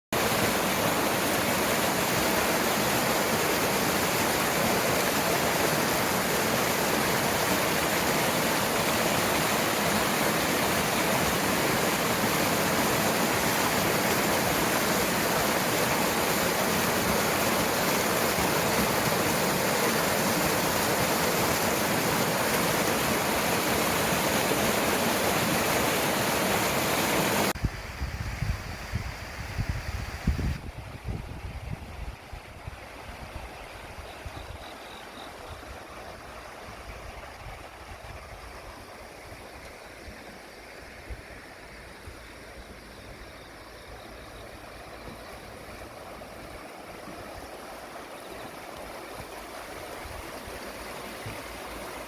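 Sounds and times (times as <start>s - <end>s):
stream water rushing: 0.1s - 28.0s, 28.8s - 52.0s.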